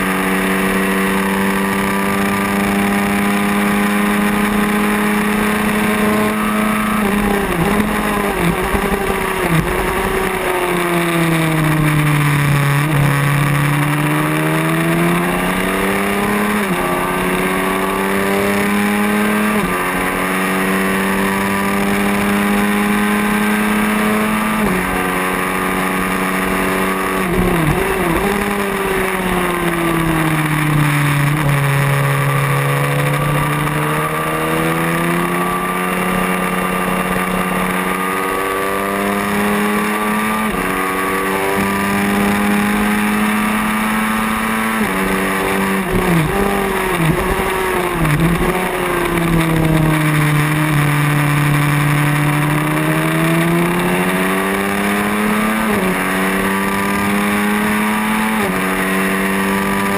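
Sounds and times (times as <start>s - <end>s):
motorcycle engine at high revs: 0.0s - 59.9s.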